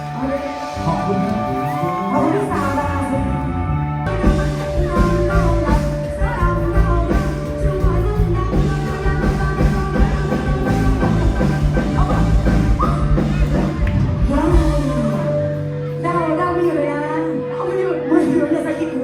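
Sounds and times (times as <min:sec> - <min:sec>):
bass guitar: 0:00.0 - 0:19.0
drums: 0:00.0 - 0:19.0
electric guitar: 0:00.0 - 0:19.0
person singing: 0:00.0 - 0:19.0.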